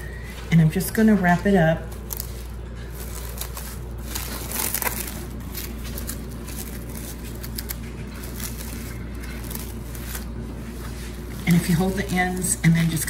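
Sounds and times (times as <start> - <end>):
plastic cling wrap crinkling: 0.0 - 13.0.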